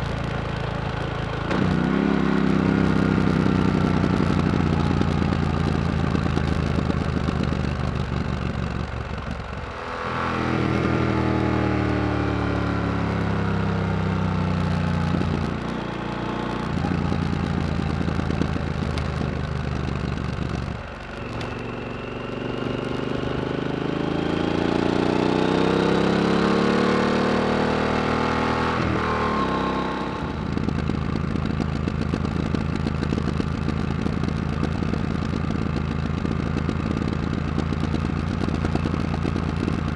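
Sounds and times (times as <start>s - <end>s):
loud motorcycle engine accelerating: 0.0s - 39.9s.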